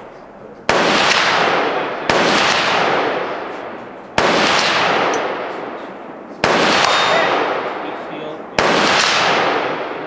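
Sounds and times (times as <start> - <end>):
gunshots: 0.7 - 10.0.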